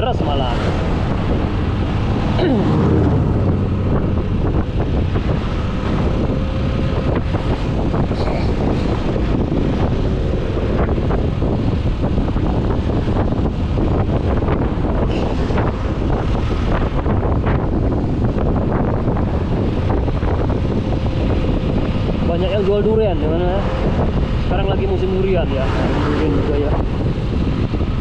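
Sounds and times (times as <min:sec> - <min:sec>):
motorcycle engine: 0:00.0 - 0:24.5
tyres on road: 0:00.0 - 0:28.0
wind buffeting microphone: 0:00.0 - 0:28.0.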